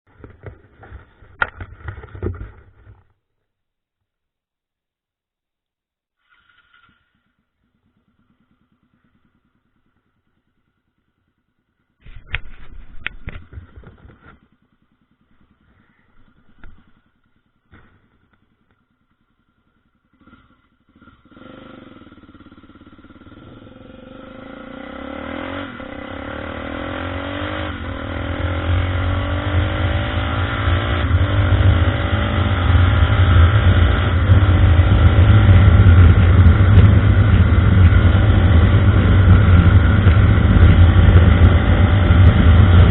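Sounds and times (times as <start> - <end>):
motorcycle engine accelerating: 0.1 - 3.1, 6.3 - 42.9.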